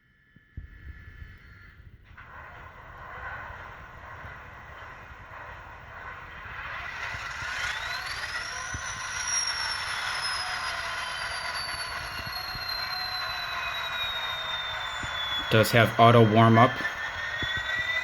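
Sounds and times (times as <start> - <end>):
rising whine: 0.0 - 18.0
diesel engine starting from small speaker: 1.4 - 18.0.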